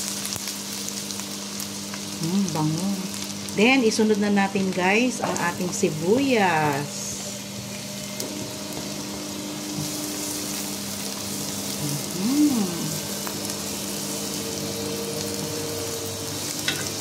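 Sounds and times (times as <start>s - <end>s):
onion sizzling in oil: 0.0s - 17.0s.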